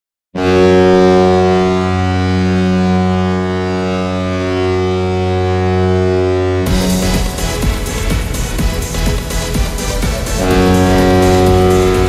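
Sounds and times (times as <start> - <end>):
deep arena goal horn blast: 0.4 - 12.0.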